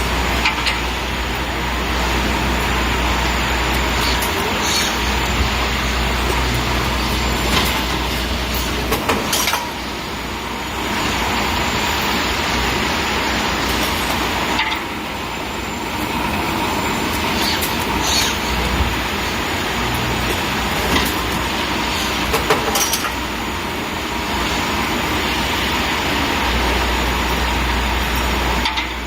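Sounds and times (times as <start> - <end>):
welding machine running: 0.0 - 29.0.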